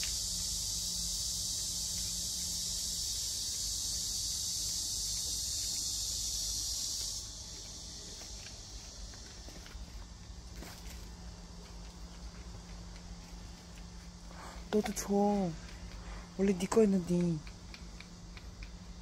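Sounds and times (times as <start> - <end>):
insect chorus buzzing: 0.0 - 19.0.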